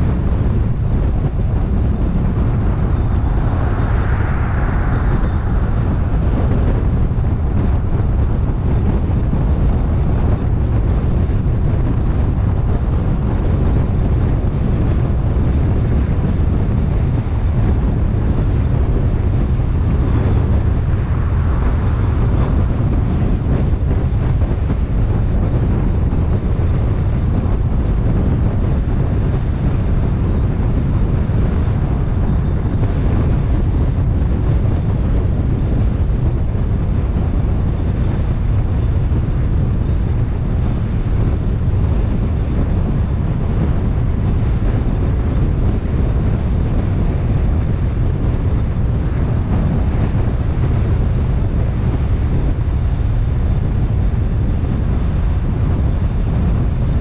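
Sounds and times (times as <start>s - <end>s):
car road noise rumble: 0.0s - 57.0s
wind rushing over microphone: 0.0s - 57.0s.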